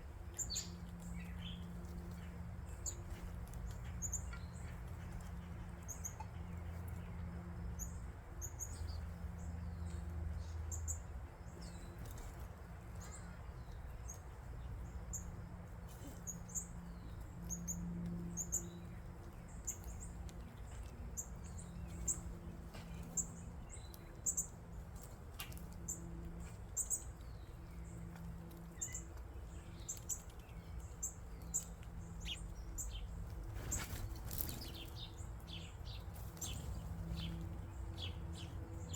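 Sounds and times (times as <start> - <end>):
low background hum: 0.0 - 38.9
small birds chirping: 0.0 - 38.9.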